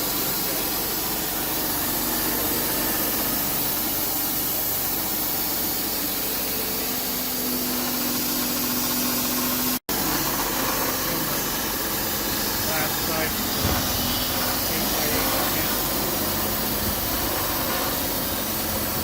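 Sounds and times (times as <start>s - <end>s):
band sawmill running: 0.0s - 19.0s
steady hum: 0.0s - 19.0s.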